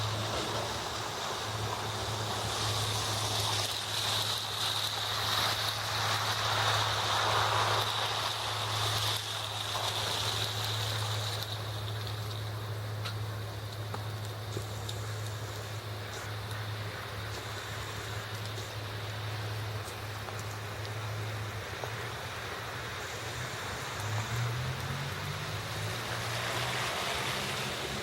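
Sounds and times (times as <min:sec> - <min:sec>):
constant low hum: 0:00.0 - 0:28.0
steady wash of street noise: 0:00.0 - 0:28.0.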